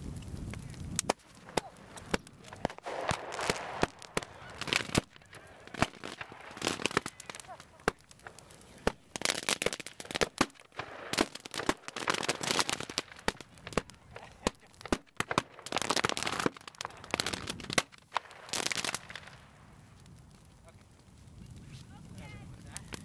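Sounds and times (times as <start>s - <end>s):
fireworks cracking and popping: 0.0s - 23.0s.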